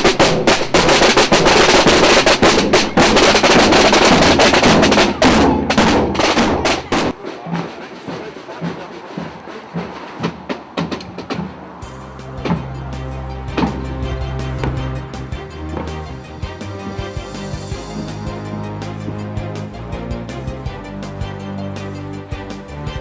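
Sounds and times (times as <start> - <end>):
marching snare and bass drums: 0.0 - 23.0.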